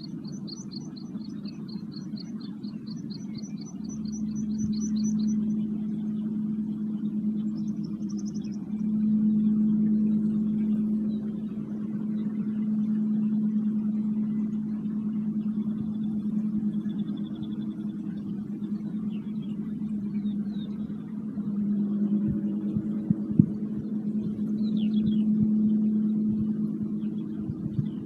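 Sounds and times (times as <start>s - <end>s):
faint bird chirps: 0.0s - 28.0s
singing bowl drone: 0.0s - 28.0s.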